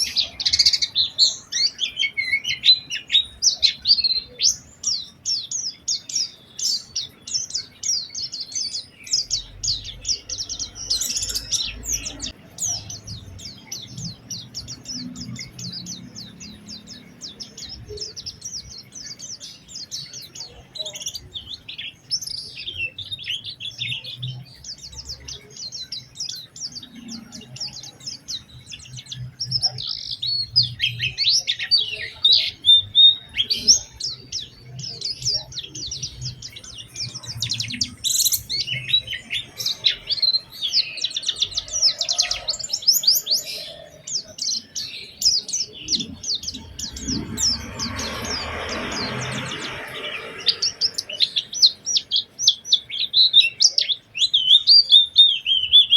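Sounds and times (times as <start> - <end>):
bird singing high chirps and trills: 0.0 - 55.9.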